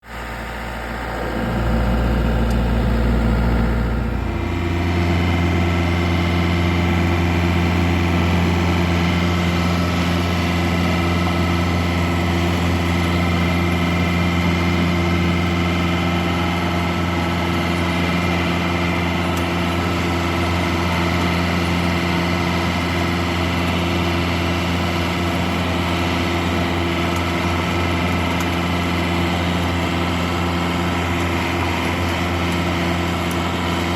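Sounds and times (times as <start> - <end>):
harvester engine running: 0.1 - 33.9.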